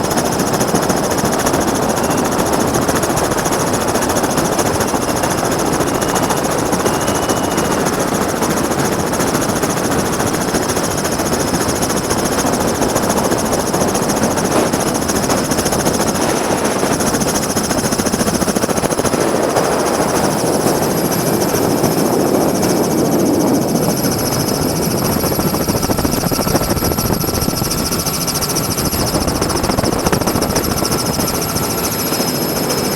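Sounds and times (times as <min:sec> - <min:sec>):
helicopter engine and rotor noise: 0:00.0 - 0:32.9
high-pitched turbine whine: 0:00.0 - 0:32.9.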